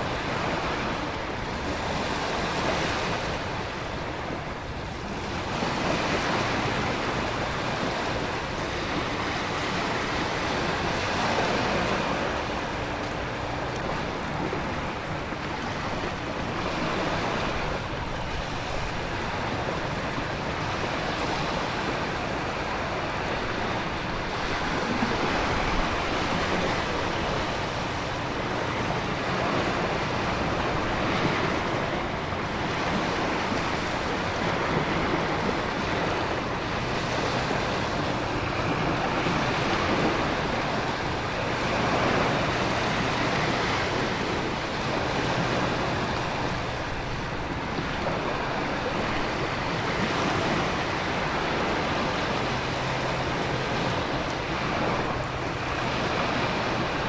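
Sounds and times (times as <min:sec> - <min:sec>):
ocean surf: 0:00.0 - 0:57.0
wind: 0:00.0 - 0:57.0.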